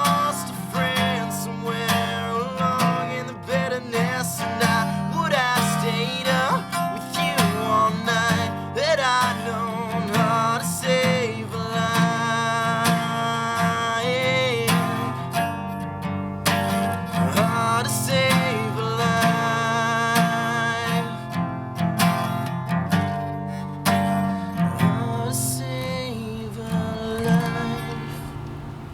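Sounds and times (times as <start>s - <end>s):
man singing: 0.0s - 15.7s, 16.5s - 21.4s, 24.1s - 28.4s
strummed acoustic guitar: 0.0s - 28.9s.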